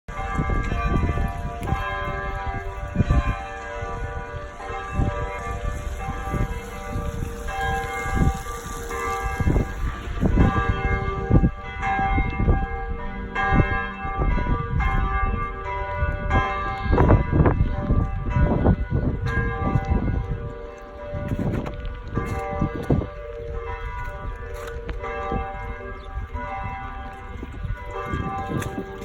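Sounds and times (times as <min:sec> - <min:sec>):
church bells pealing: 0:00.1 - 0:29.0.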